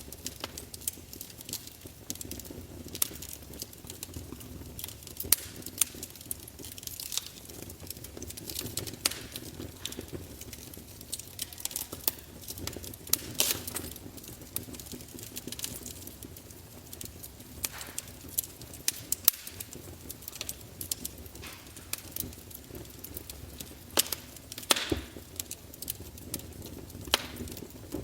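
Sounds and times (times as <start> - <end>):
burning logs popping and crackling: 0.0 - 28.0
fire rumbling: 0.0 - 28.0.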